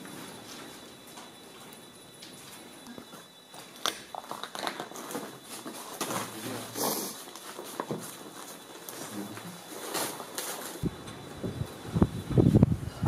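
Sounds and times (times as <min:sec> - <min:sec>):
footsteps rustling through paper: 0:00.0 - 0:10.8.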